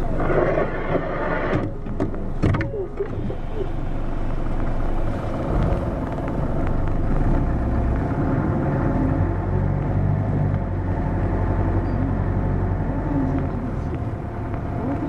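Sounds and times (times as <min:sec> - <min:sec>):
diesel bus engine running: 0:00.0 - 0:15.0
road rumble: 0:00.0 - 0:15.0.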